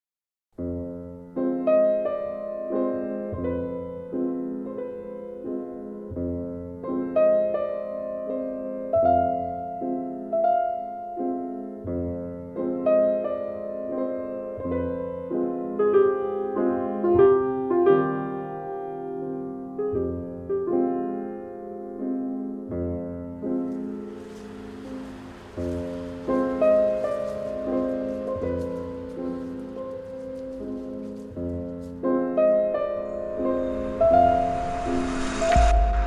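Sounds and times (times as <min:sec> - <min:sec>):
slow piano music: 0:00.6 - 0:36.0.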